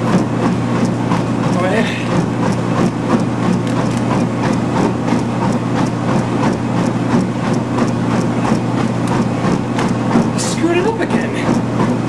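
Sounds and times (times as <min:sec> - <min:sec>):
footfalls on treadmill belt: 0:00.0 - 0:12.0
treadmill motor humming: 0:00.0 - 0:12.0.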